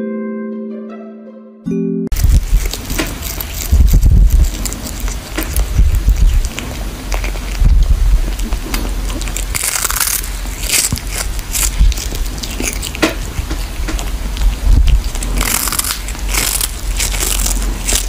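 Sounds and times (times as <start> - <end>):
kitten chewing crunching bites: 2.1 - 18.0
steady low rumble: 2.1 - 18.0.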